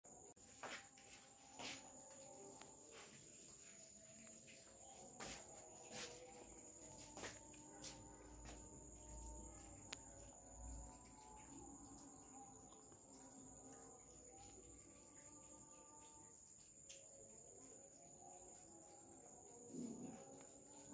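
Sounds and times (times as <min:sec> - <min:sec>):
crickets chirring: 0:00.1 - 0:20.9.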